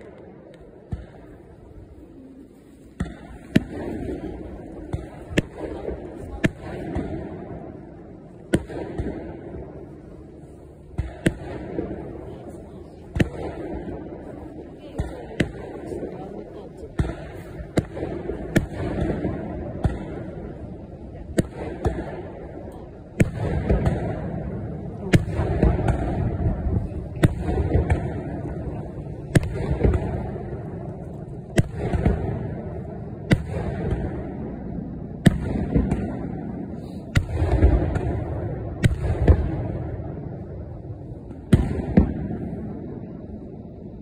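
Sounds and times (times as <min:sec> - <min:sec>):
fireworks bursting with bangs: 0:00.0 - 0:44.0.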